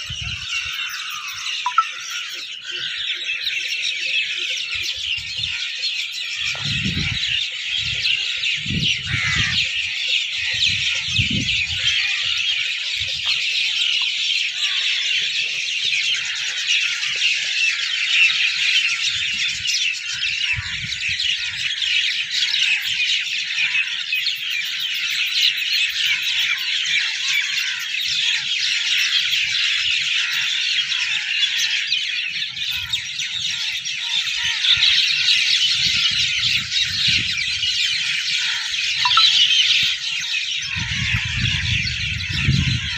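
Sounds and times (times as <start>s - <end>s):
chorus of small birds chirping: 0.0s - 42.9s.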